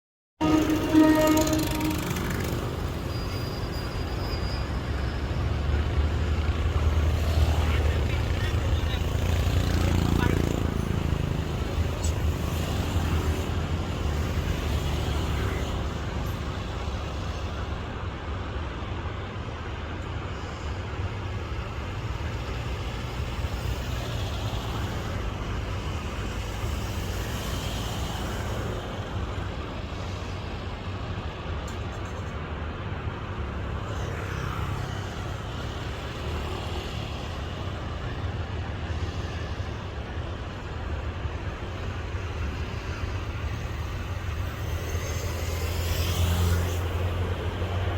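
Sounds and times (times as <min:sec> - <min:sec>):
diesel train rumbling: 0:00.4 - 0:47.9.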